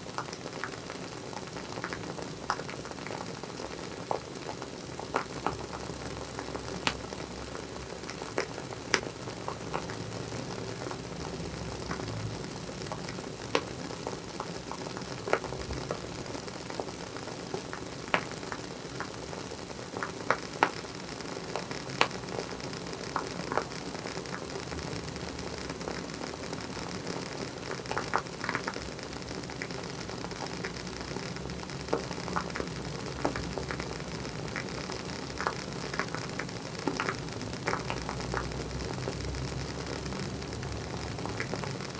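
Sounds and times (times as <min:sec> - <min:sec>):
candle wick crackling pops: 0:00.0 - 0:41.9
steady hiss: 0:00.0 - 0:41.9.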